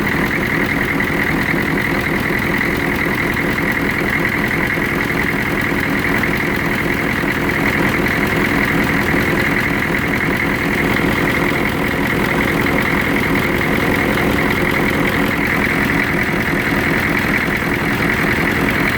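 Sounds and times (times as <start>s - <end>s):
diesel engine rough idle: 0.0s - 18.9s.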